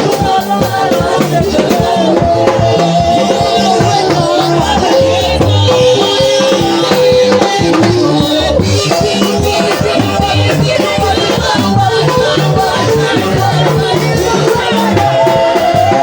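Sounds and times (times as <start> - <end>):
gospel band playing: 0.0 - 16.0
steady drum beat: 0.0 - 16.0.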